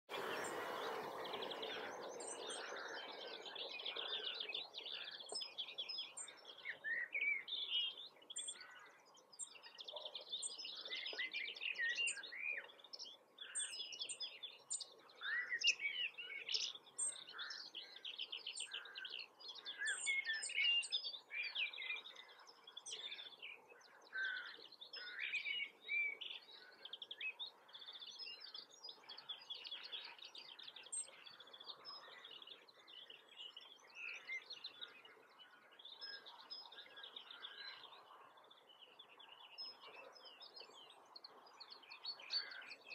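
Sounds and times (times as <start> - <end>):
songbirds chirping and singing: 0.1 - 42.9.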